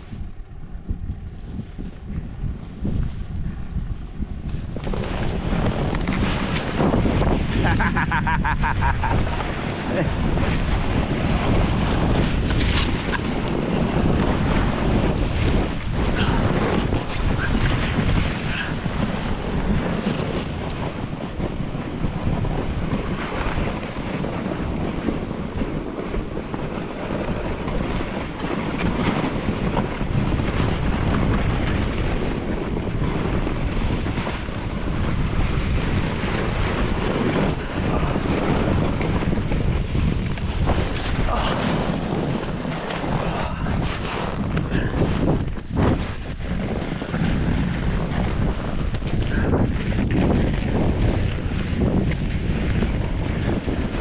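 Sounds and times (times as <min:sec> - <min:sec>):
snowboard sliding on snow: 0:00.0 - 0:54.0
wind buffeting microphone: 0:00.0 - 0:54.0.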